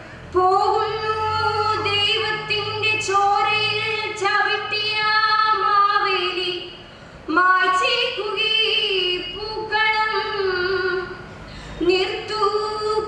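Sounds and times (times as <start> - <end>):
girl singing: 0.4 - 6.7, 7.3 - 11.2, 11.8 - 13.0.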